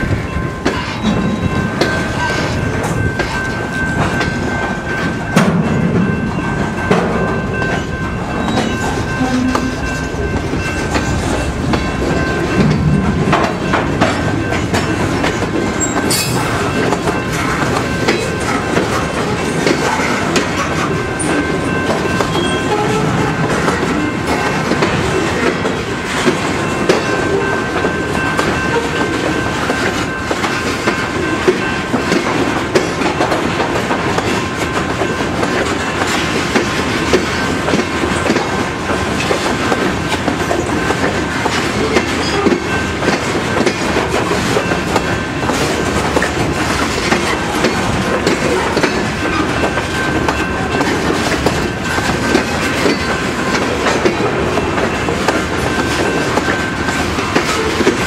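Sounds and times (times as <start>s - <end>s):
freight train rolling past: 0.0s - 58.0s
wheels clicking over rail joints: 0.6s - 58.0s.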